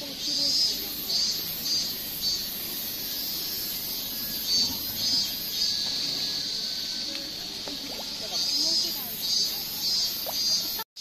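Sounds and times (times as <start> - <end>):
high-pitched insect drone: 0.0 - 10.8.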